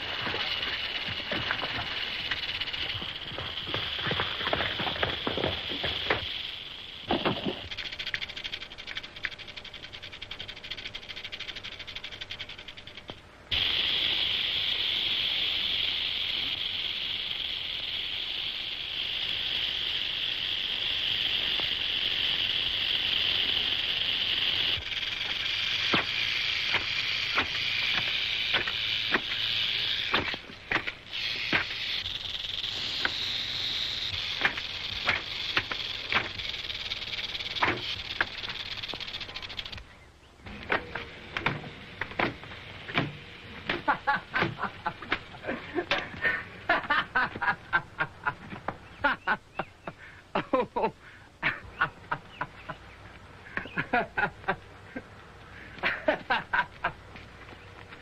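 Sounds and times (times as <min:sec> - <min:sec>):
high hissing buzz: 0:00.0 - 0:58.0.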